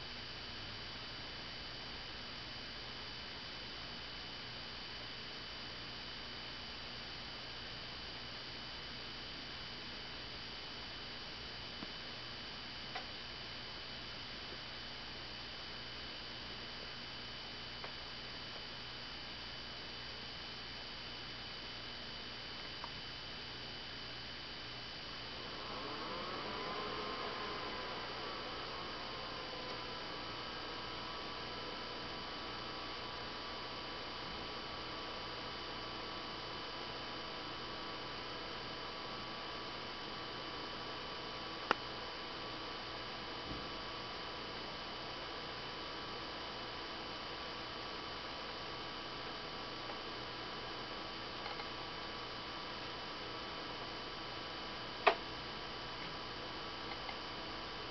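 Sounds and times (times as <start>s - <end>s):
projector cooling fans humming: 0.0s - 57.9s.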